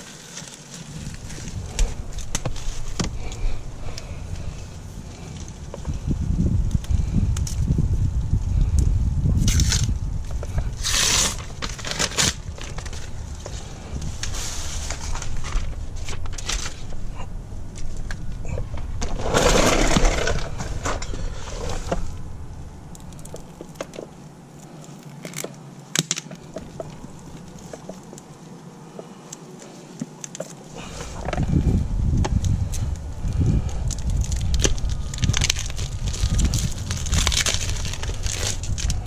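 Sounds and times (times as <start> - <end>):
foil tape crinkling and rustling: 0.0 - 22.2, 22.9 - 39.0.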